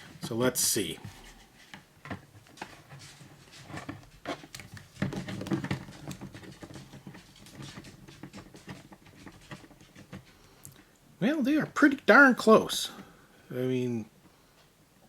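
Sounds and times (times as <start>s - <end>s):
plastic rubbing and rustling: 0.0s - 13.1s.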